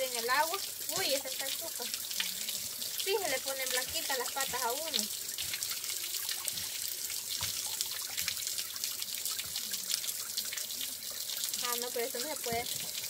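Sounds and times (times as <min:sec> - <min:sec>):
small water splashes: 0:00.0 - 0:13.0
water trickling onto stone: 0:00.0 - 0:13.0.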